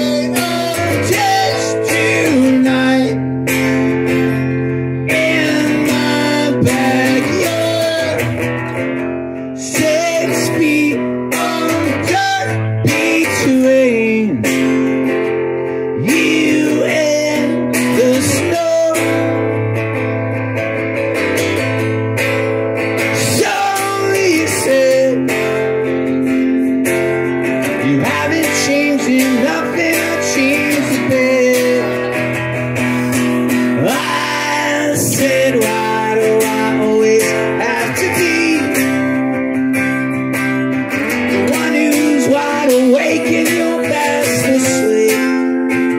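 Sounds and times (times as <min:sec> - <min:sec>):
man singing: 0:00.0 - 0:15.1, 0:15.9 - 0:19.6, 0:23.0 - 0:26.6, 0:27.6 - 0:32.4, 0:33.2 - 0:39.5, 0:41.2 - 0:45.9
acoustic guitar strumming: 0:00.0 - 0:45.9.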